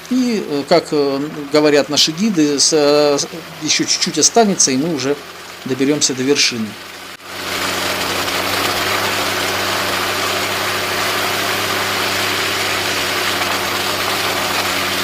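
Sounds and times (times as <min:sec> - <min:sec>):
steady loud hiss: 0:00.0 - 0:15.0
vehicle engine running: 0:00.0 - 0:15.0.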